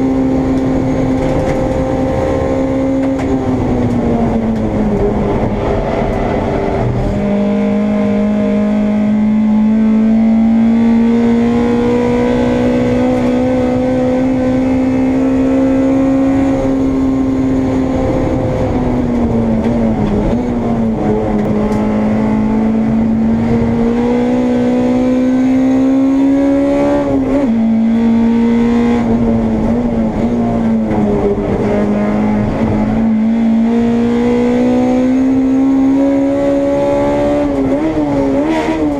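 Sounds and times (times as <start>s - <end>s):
race car engine under load: 0.0s - 38.9s.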